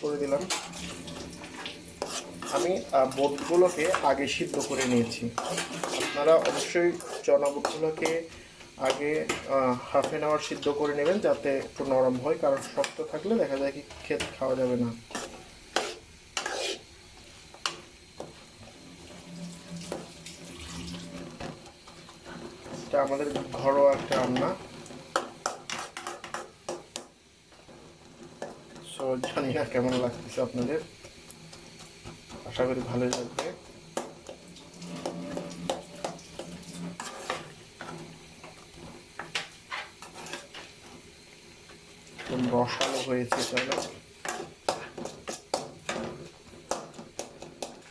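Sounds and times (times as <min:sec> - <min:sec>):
spoon scraping and knocking in pan: 0:00.0 - 0:41.1, 0:41.7 - 0:47.9
chickpeas frying: 0:00.0 - 0:47.9
faint sizzle: 0:00.0 - 0:47.9.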